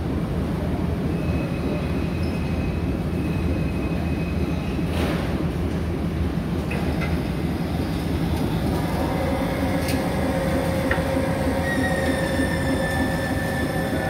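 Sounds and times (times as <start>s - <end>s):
ferry engine rumble: 0.0s - 14.0s.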